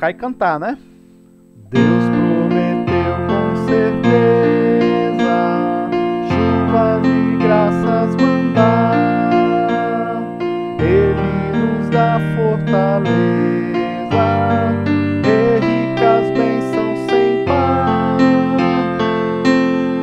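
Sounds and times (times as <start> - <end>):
keyboard piano chords: 0.0 - 20.0
man singing hymn melody: 1.6 - 20.0.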